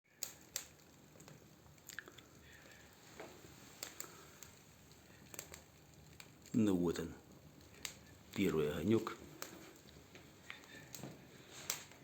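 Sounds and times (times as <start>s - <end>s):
fire crackling and snapping: 0.1s - 12.0s
low hiss: 0.1s - 12.0s.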